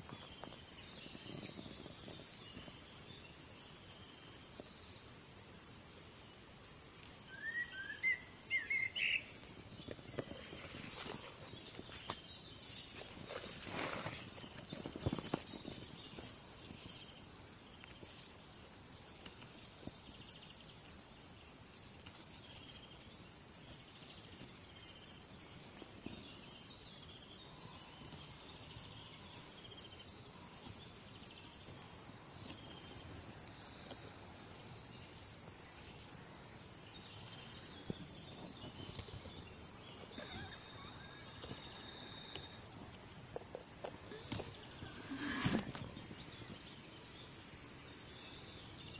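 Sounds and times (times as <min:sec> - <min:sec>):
small birds chirping and trilling: 0:00.0 - 0:48.9.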